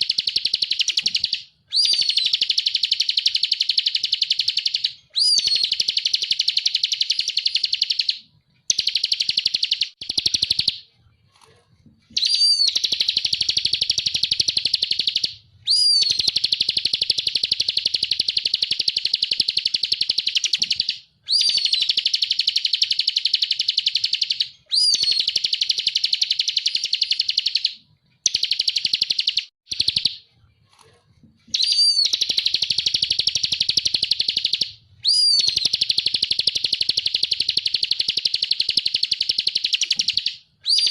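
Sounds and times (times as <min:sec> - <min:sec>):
bird singing rapid trills: 0:00.0 - 0:10.8, 0:12.2 - 0:30.2, 0:31.5 - 0:40.9.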